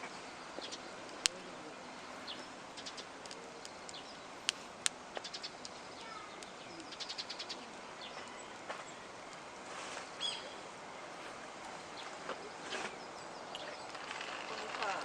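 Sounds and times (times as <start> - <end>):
birds chirping: 0.0 - 15.0
campfire crackling: 0.0 - 15.0.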